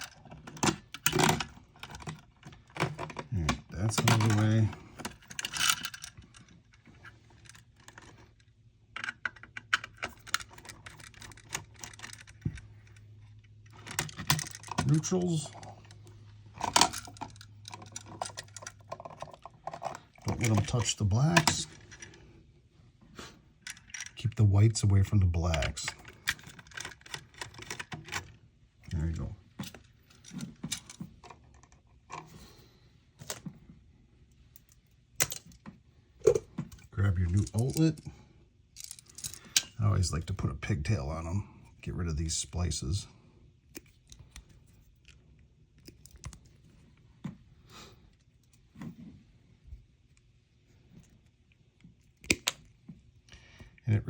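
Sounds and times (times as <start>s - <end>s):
hands handling wires and tools: 0.0s - 22.2s, 25.0s - 32.6s, 33.2s - 38.1s, 43.6s - 53.8s.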